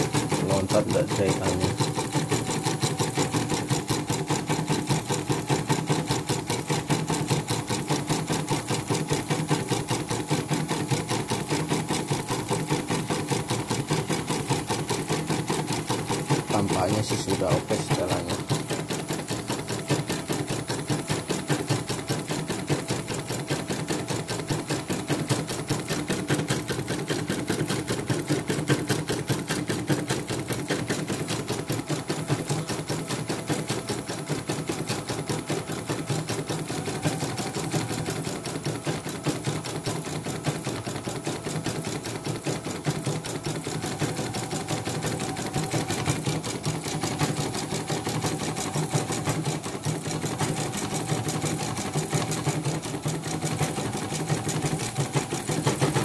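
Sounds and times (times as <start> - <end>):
embroidery machine needle clatter: 0.0 - 56.0.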